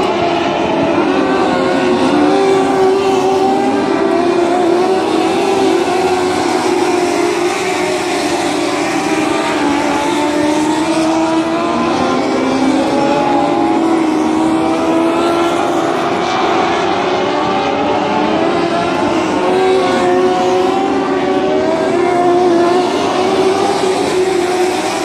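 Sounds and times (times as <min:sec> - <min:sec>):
race car engines at speed: 0:00.0 - 0:25.0.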